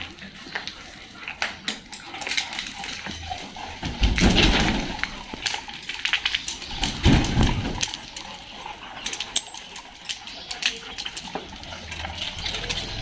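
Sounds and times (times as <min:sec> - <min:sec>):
dog claws clicking on tiles: 0:00.0 - 0:13.0.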